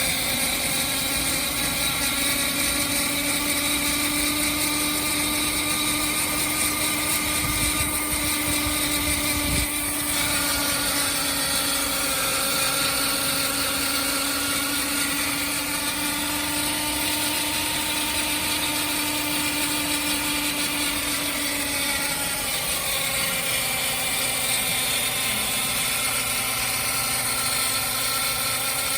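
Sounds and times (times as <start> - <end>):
transmission whine: 0.0 - 28.9.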